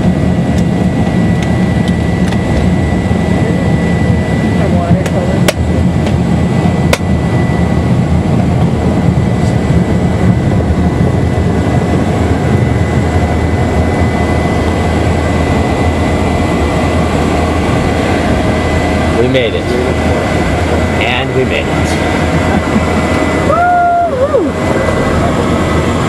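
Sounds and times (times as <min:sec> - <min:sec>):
propeller plane engine running: 0:00.0 - 0:26.0.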